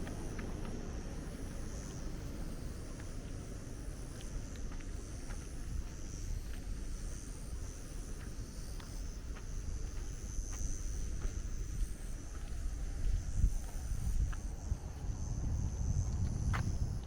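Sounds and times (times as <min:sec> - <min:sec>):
high-pitched insect drone: 0:00.0 - 0:17.0
steady low rumble: 0:00.0 - 0:17.0.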